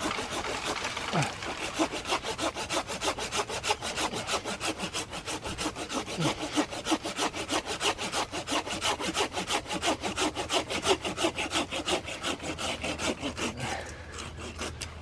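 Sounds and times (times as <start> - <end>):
hand saw cutting branch: 0.0 - 15.0.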